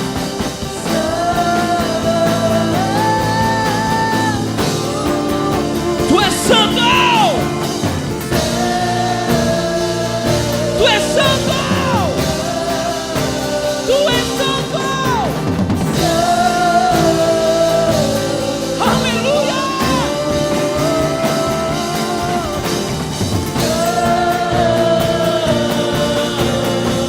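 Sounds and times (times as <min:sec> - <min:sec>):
light drums: 0:00.0 - 0:27.0
person singing long notes: 0:00.0 - 0:27.0
worship band playing slow song: 0:00.0 - 0:27.0.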